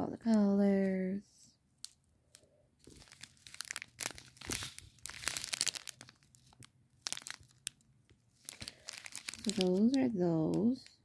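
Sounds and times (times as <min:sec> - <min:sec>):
plastic packet crinkling: 0:01.8 - 0:11.0.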